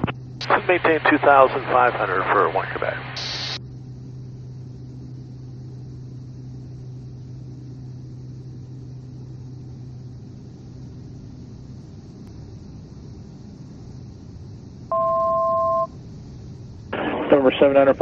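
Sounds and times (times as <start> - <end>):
turboprop engine droning: 0.0 - 18.0.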